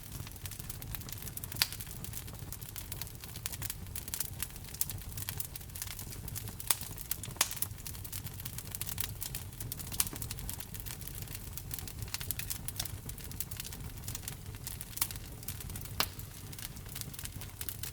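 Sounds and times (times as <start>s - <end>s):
loud fire pops: 0.0s - 17.9s
wood fire crackling: 0.0s - 17.9s.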